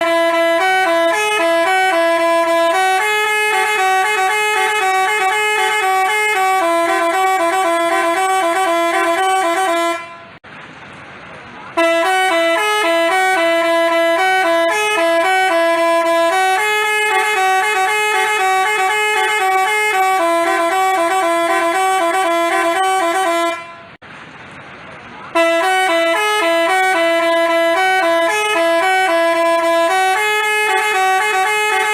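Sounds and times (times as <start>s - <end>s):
bus melody horn playing a tune: 0.0s - 10.4s, 11.7s - 24.0s, 25.3s - 31.9s.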